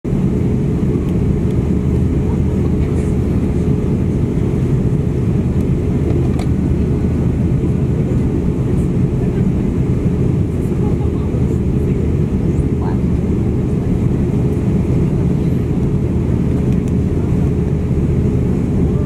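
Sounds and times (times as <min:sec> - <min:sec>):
aircraft cabin engine rumble: 0:00.1 - 0:19.0.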